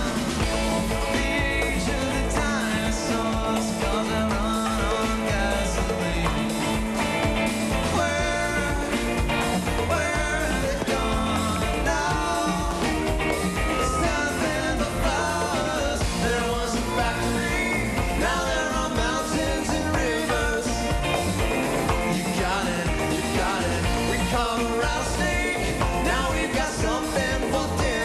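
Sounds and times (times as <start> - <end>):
live rock band playing: 0.0 - 28.0
male lead singer: 0.0 - 28.0.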